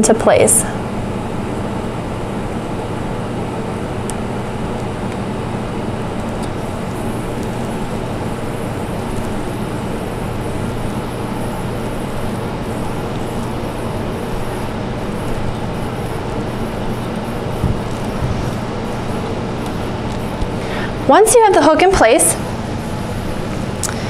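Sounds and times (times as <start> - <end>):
room hum and hiss: 0.0 - 24.0.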